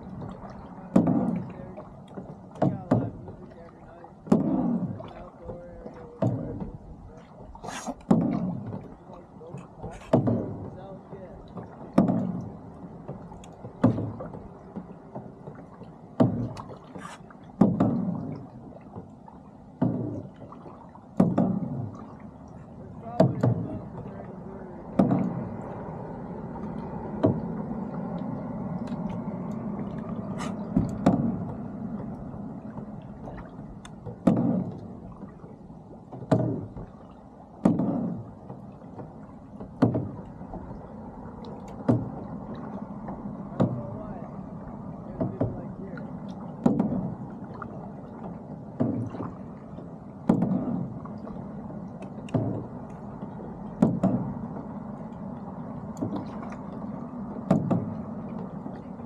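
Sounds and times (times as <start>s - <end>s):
low engine hum: 0.0s - 59.0s
water slapping boat hull: 0.0s - 59.0s.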